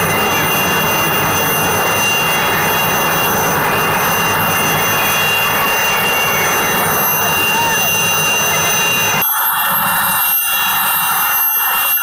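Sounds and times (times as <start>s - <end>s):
helicopter engine and rotor running: 0.0s - 12.0s
high turbine whine: 0.0s - 12.0s.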